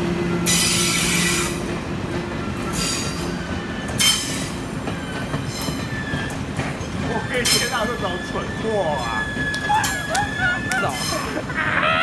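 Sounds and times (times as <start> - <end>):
train wheels squealing on rails: 0.0 - 12.0.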